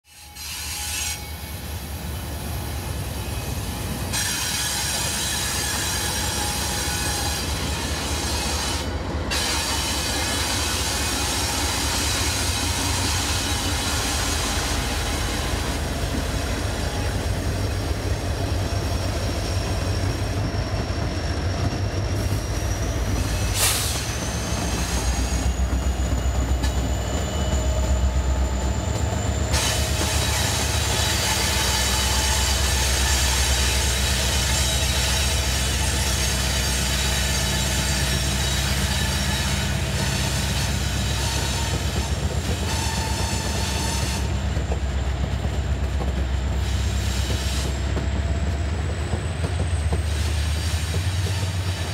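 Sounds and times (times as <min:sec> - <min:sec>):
rail noise: 0:00.1 - 0:51.9
steel wheel squeals: 0:00.1 - 0:51.9
train engine drone: 0:00.1 - 0:51.9.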